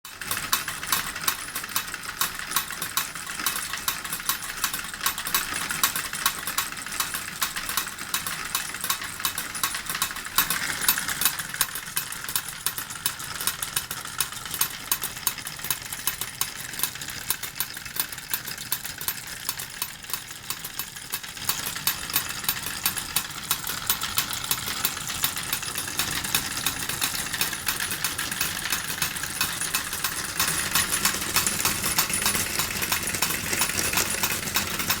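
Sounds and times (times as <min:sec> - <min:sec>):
clatter of small metal knocks: 0:00.1 - 0:35.0.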